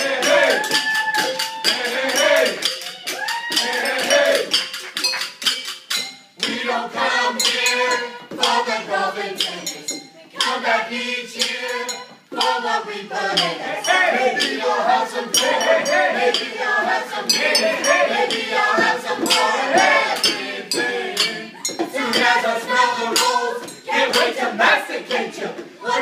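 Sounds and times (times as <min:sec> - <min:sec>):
group of voices singing: 0:00.0 - 0:04.6, 0:06.4 - 0:26.0
glasses and dishes clinking rhythmically: 0:00.0 - 0:26.0.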